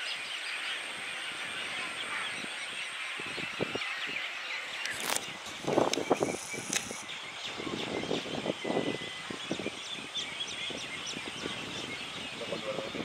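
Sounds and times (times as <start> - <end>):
water birds calling: 0.0 - 13.0.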